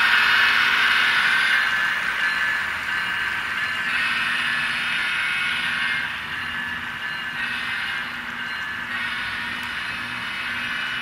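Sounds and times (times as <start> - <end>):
model train rolling on track: 0.0 - 11.0.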